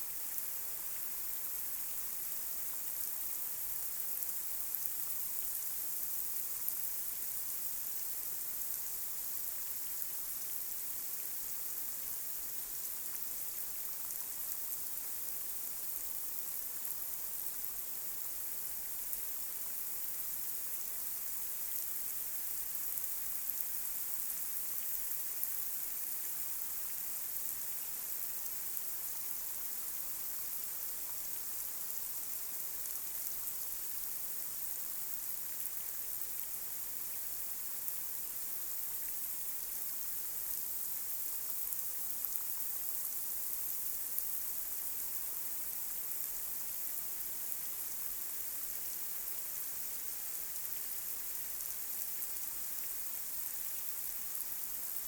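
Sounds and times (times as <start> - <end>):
light rain on a street: 0.0 - 55.0.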